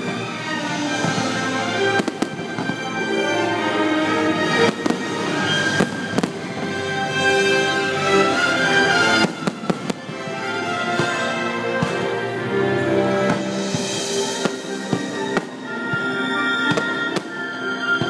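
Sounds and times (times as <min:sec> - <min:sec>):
fireworks bangs and crackles: 0:00.0 - 0:07.7, 0:09.0 - 0:12.4, 0:13.2 - 0:18.0
music soundtrack: 0:00.0 - 0:18.0.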